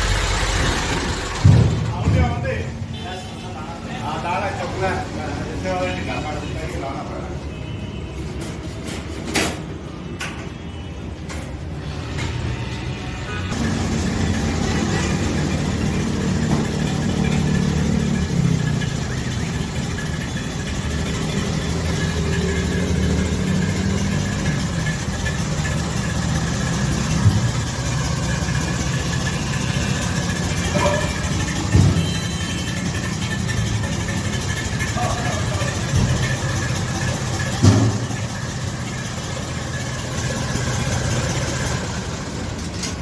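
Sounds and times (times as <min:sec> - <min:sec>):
tractor diesel engine running: 0:00.0 - 0:07.5, 0:12.0 - 0:43.0.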